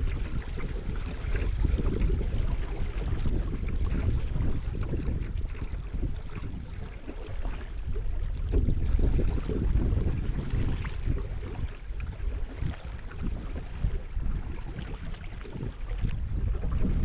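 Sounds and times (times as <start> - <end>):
water splashing against kayak hull: 0.0 - 17.0.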